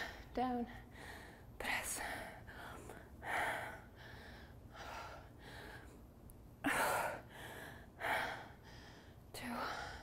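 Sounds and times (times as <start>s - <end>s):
woman breathing hard: 0.0s - 10.0s.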